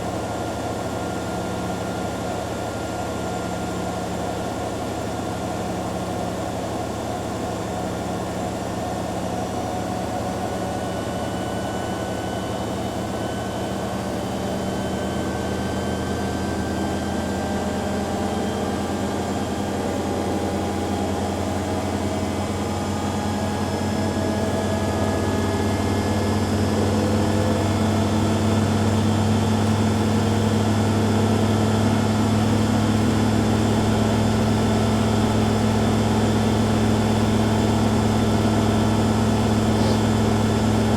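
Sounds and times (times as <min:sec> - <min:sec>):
washing machines spinning: 0:00.0 - 0:40.9.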